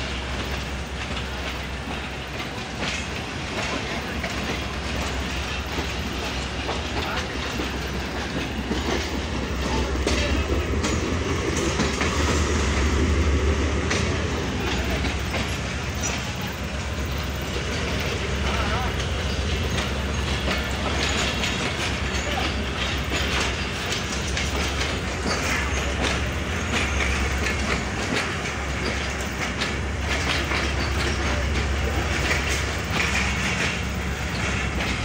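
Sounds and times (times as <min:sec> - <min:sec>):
train wheels clickety-clack: 0:00.0 - 0:35.0.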